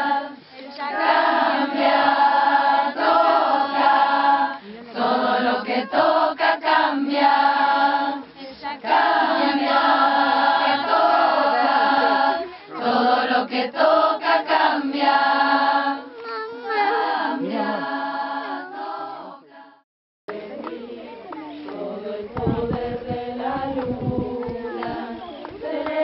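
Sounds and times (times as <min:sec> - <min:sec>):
women singing together: 0:00.0 - 0:26.0.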